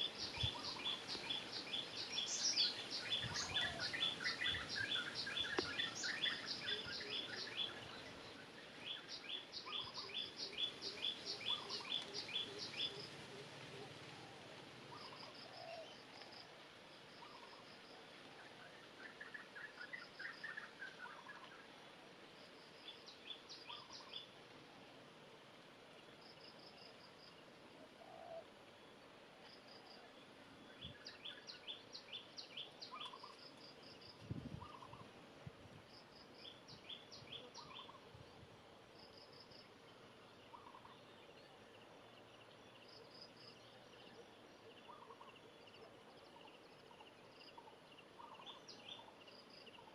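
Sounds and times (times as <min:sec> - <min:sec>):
small birds chirping: 0:00.0 - 0:16.6, 0:22.8 - 0:24.4, 0:26.0 - 0:35.2, 0:35.9 - 0:38.4, 0:39.0 - 0:49.9.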